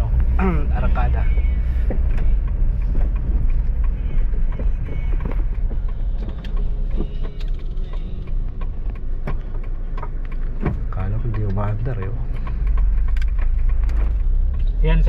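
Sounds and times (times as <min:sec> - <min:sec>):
car engine rumble inside cabin: 0:00.0 - 0:15.0
handling clicks and knocks: 0:01.4 - 0:14.3.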